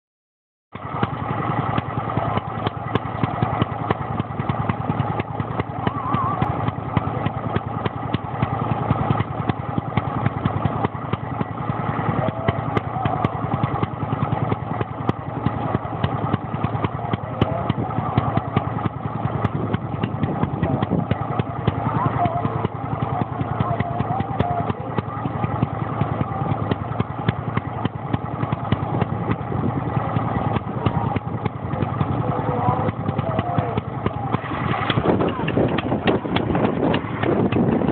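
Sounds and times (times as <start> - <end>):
stationary engine running: 0.7 - 37.9.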